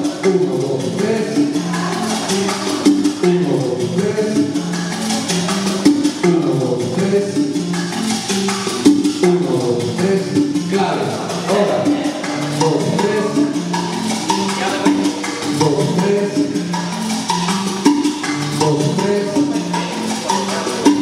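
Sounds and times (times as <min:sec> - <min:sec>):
salsa music: 0:00.0 - 0:21.0.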